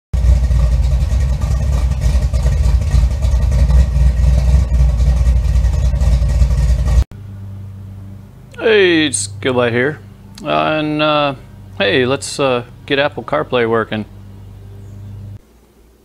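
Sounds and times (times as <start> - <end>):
car engine running: 0.1 - 15.5.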